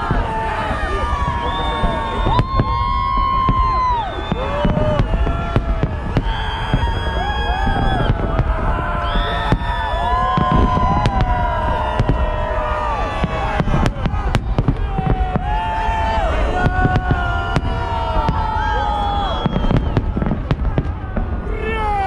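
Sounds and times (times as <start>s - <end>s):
whistling firework shells: 0.0s - 20.9s
firework cracks and bangs: 0.0s - 22.0s.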